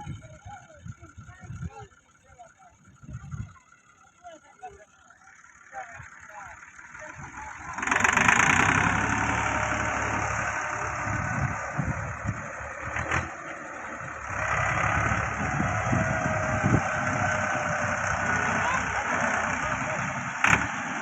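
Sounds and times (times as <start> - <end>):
tractor diesel engine running hard: 0.0 - 21.0.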